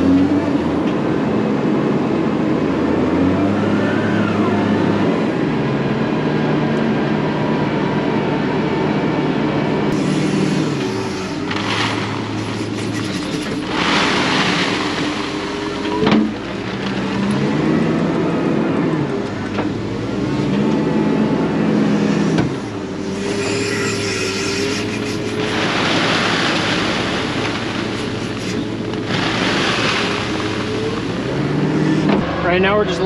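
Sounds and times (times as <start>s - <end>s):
wheel loader diesel engine: 0.0s - 33.0s.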